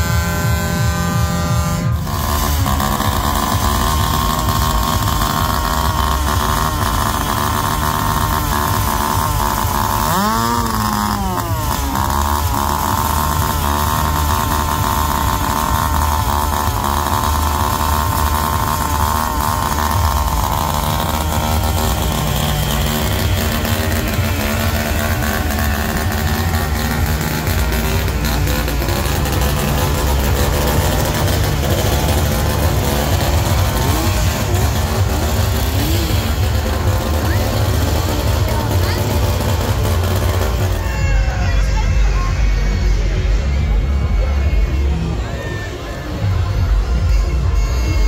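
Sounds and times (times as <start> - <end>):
horn: 0.0 - 48.0
motorized bicycle engine running: 0.0 - 48.0.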